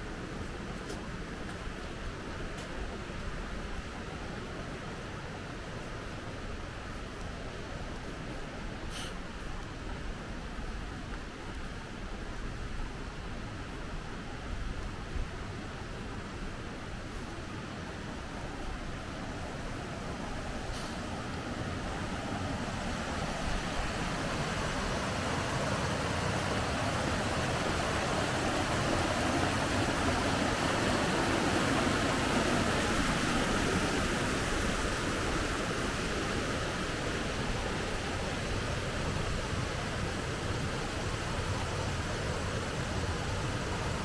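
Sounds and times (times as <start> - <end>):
rushing river water: 0.0 - 44.0.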